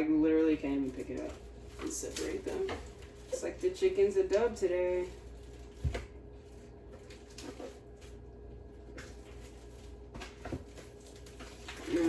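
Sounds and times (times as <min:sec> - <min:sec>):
low steady hum: 0:00.0 - 0:12.0
crinkly paper scrapes: 0:00.3 - 0:08.3, 0:09.0 - 0:12.0.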